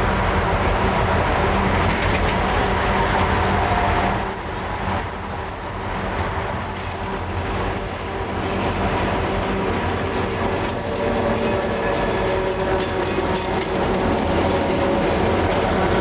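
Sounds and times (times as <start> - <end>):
freight train rumbling past: 0.0 - 16.0
train wheel squeal: 0.0 - 16.0.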